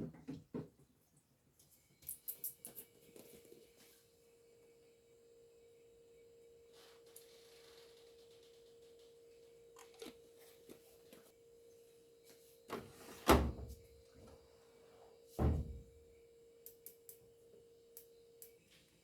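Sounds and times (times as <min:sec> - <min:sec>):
faint steady hum: 0:00.2 - 0:19.0.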